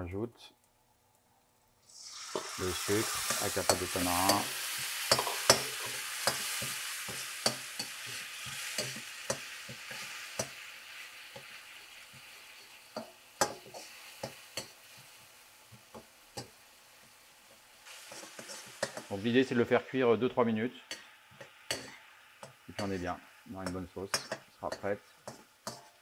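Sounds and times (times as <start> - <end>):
paste sizzling in a wok: 1.8 - 26.0.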